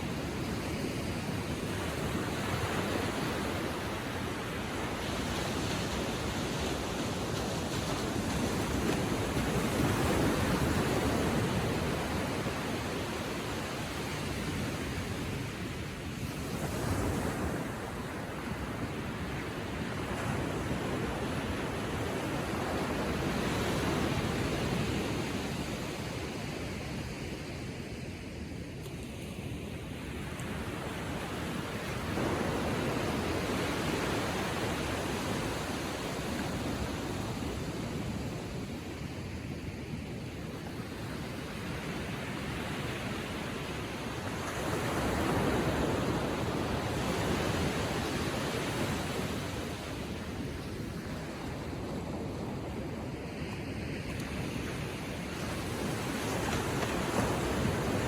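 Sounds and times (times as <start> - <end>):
gentle ocean waves lapping: 0.0 - 58.0.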